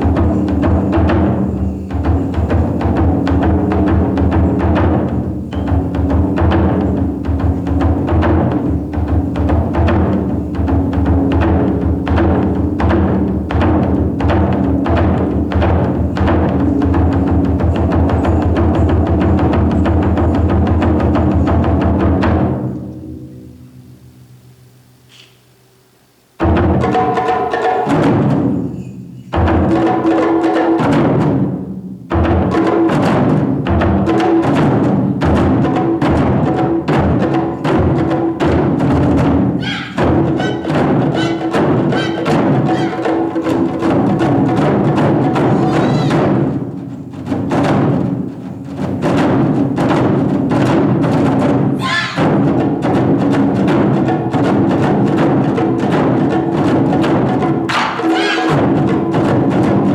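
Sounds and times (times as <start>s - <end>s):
taiko drums playing: 0.0s - 23.8s, 26.4s - 59.9s.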